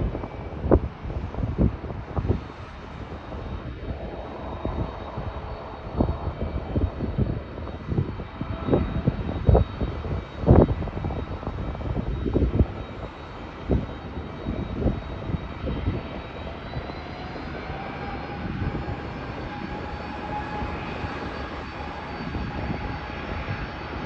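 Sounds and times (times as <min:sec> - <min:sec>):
faint high whine: 0:00.0 - 0:24.0
jet engine rush: 0:00.0 - 0:24.0.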